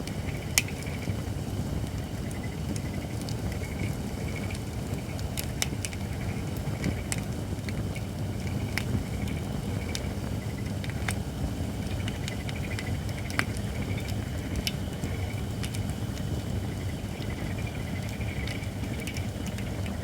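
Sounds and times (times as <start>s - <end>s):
campfire pops and crackles: 0.0s - 20.0s.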